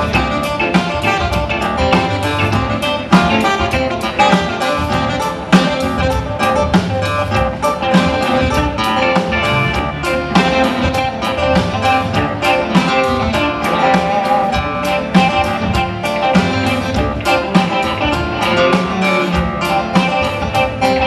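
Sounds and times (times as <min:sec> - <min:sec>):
electric guitars: 0:00.0 - 0:21.0
steady drum beat: 0:00.0 - 0:21.0.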